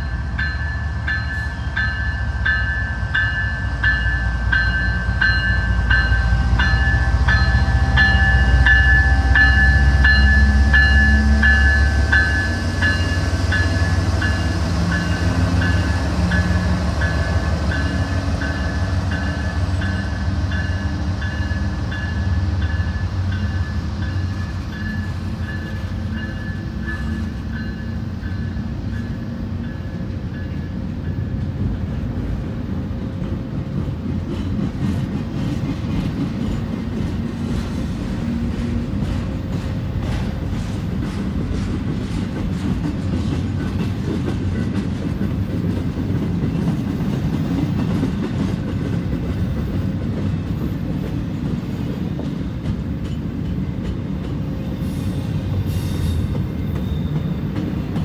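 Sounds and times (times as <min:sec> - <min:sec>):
diesel locomotive engine: 0:00.0 - 0:58.0
train wheels on rails: 0:00.0 - 0:58.0.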